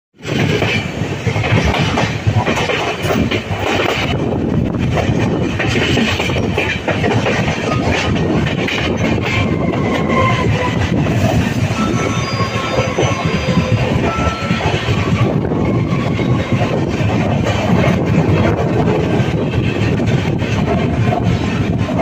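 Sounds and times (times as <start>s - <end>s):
train wheels rumbling on rail: 0.2s - 22.0s
wheels clacking over rail joints: 0.2s - 22.0s.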